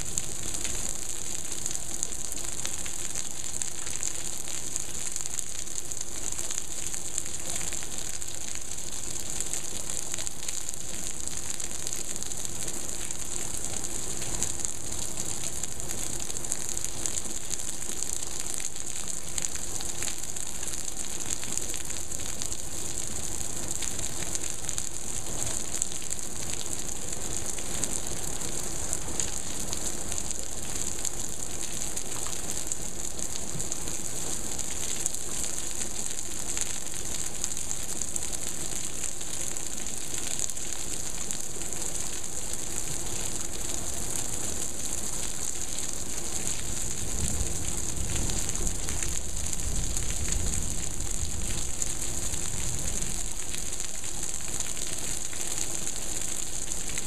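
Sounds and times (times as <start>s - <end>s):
heavy rain splashing on water: 0.0s - 57.0s.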